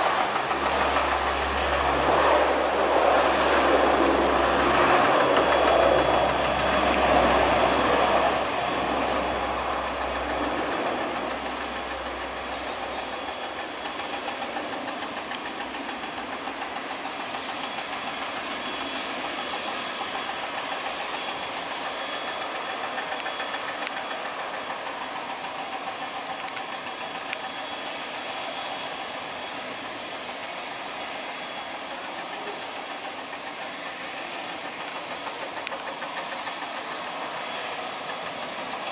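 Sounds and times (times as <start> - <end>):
turboprop aircraft engines droning: 0.0 - 38.9.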